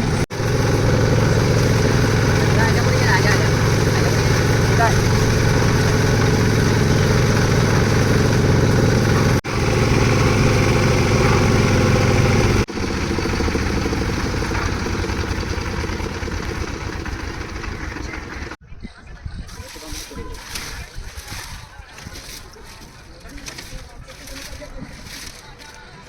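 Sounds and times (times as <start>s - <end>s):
concrete mixer engine rumbling: 0.0s - 18.6s, 19.5s - 26.0s.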